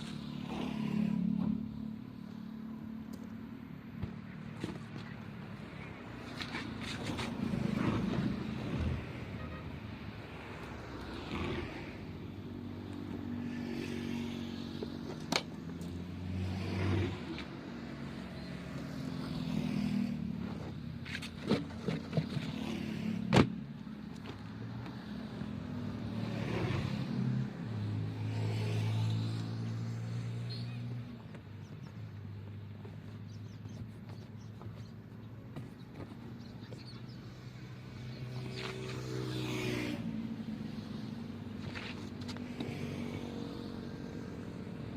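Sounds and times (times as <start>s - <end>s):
vehicles passing by: 0.0s - 44.9s.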